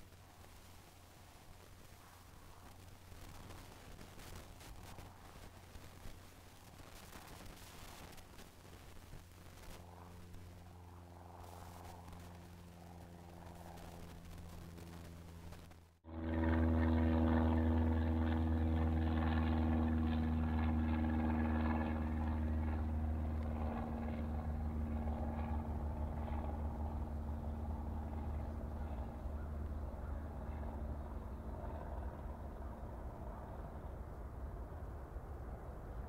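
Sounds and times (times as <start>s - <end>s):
jet engines rumbling: 0.1s - 36.0s.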